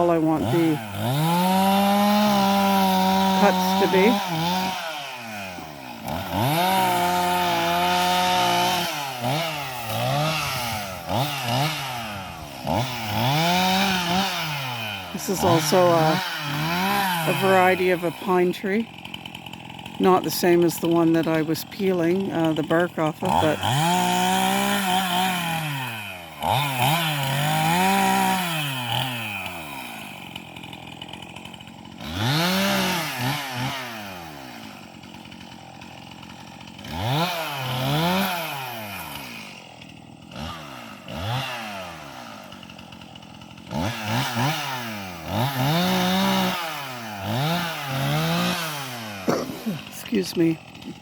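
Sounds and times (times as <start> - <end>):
chainsaw cutting limbs: 0.0 - 51.0.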